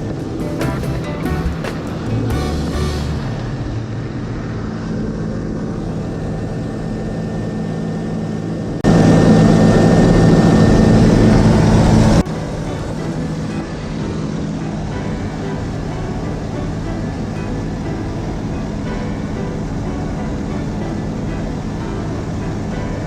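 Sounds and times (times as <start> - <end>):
propeller airplane engine running: 0.0 - 23.0.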